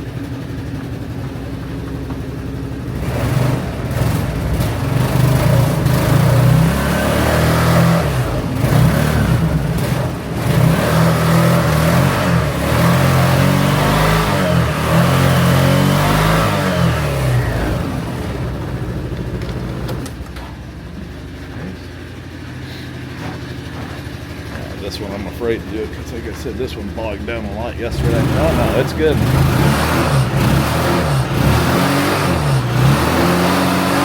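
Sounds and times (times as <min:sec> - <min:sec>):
scooter engine revving and idling: 0:00.0 - 0:34.0.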